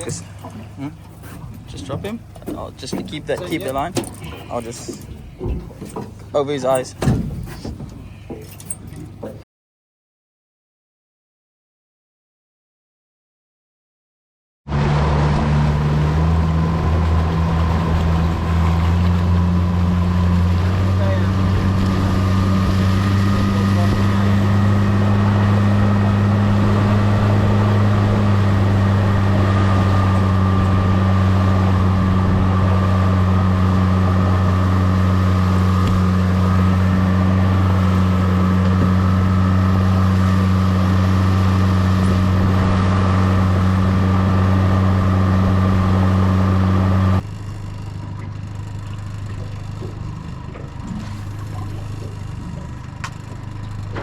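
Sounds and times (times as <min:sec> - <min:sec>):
outboard motor droning: 0:00.0 - 0:09.4, 0:14.7 - 0:54.0.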